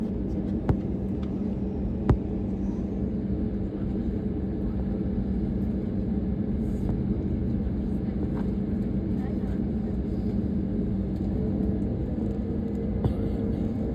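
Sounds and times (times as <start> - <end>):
airplane engines rumbling: 0.0 - 13.9.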